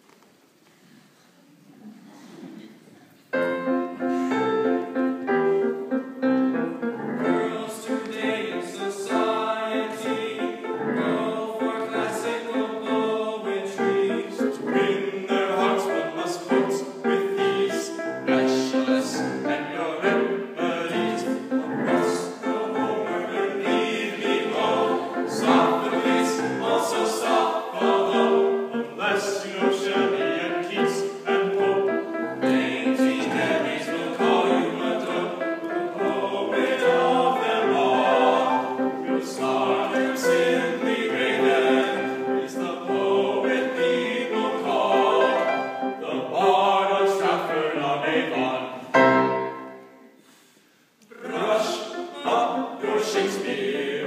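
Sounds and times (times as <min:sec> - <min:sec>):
boys singing in harmony: 0:07.1 - 0:49.8, 0:51.1 - 0:54.0.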